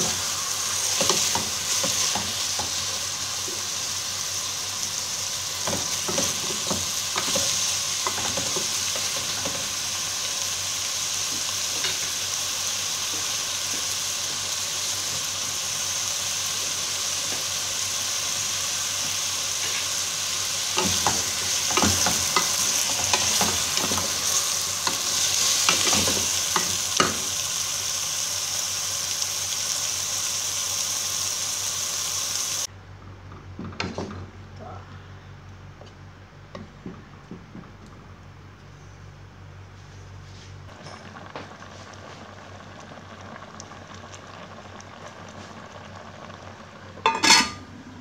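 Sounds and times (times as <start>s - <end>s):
chicken sizzling in a pot: 0.0s - 32.7s, 40.6s - 48.0s.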